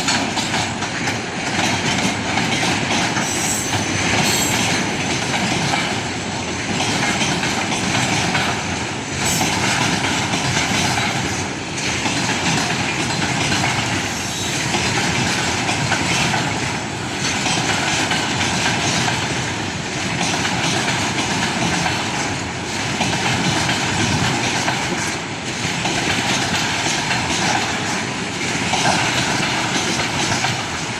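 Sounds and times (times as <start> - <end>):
train wheels clacking: 0.0 - 30.9.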